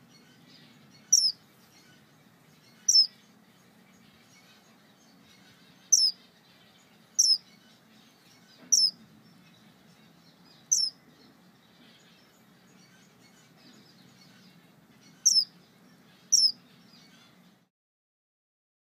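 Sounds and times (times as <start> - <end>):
finch calls: 0.1 - 17.7.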